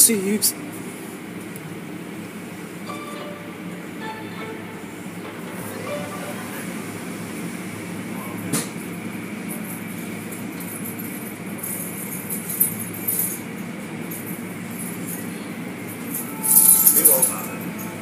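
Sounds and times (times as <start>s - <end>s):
car wash machinery rumble: 0.0s - 18.0s
faint steady whine: 0.0s - 18.0s.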